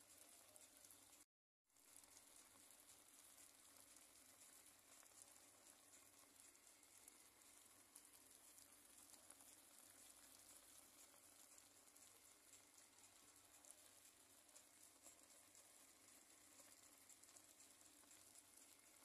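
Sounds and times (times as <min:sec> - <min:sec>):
sauce simmering with crackles: 0:00.0 - 0:19.0.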